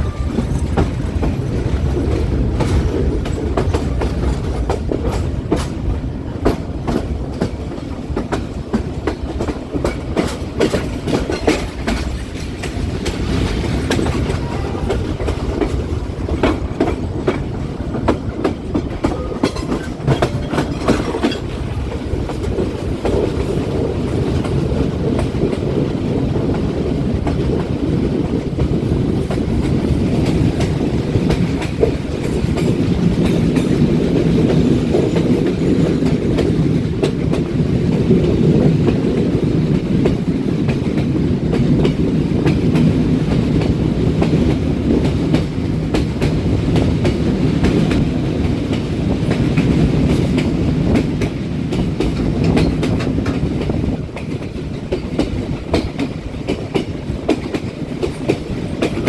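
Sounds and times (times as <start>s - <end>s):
train wheels rumbling: 0.0s - 59.0s
wheels clacking over rail joints: 0.0s - 59.0s.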